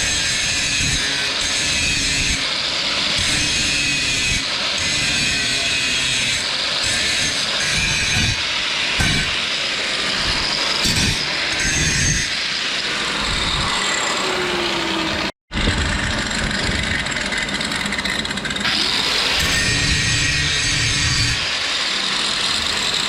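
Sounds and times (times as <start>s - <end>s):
harsh metalworking on steel: 0.0s - 23.0s.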